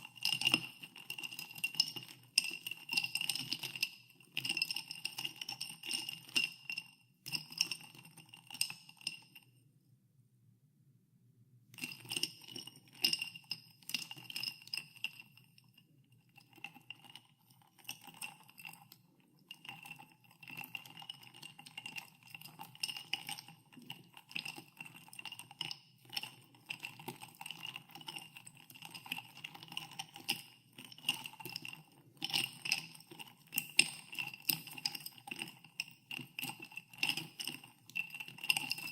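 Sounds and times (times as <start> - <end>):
ice cubes clinking in a glass: 0.0 - 9.4, 11.8 - 15.4, 16.4 - 38.9.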